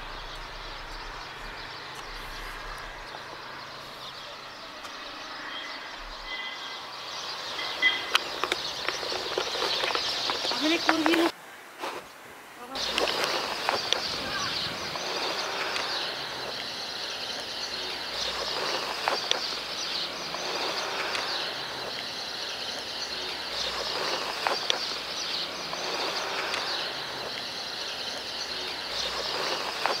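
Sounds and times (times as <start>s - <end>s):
outdoor ambience noise: 0.0s - 30.0s.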